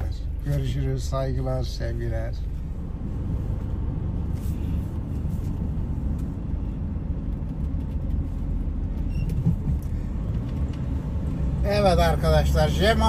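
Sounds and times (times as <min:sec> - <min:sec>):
tyres on road: 0:00.0 - 0:13.0
vehicle engine rumble: 0:00.0 - 0:13.0.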